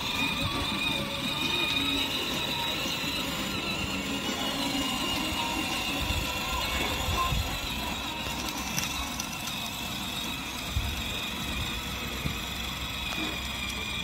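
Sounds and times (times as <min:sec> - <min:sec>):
electric motor whine: 0:00.0 - 0:14.0
plastic wheels rumbling on asphalt: 0:00.0 - 0:14.0.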